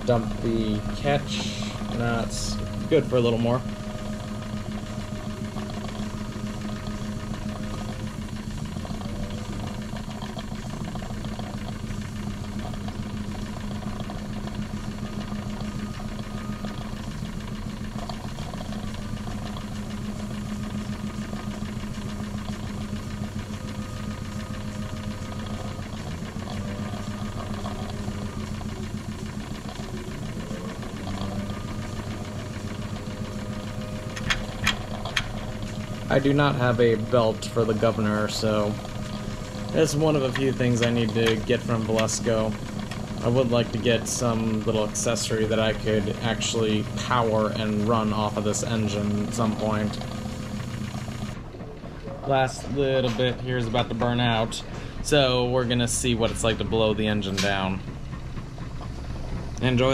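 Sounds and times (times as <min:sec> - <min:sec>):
model steam engine running: 0:00.0 - 0:59.9.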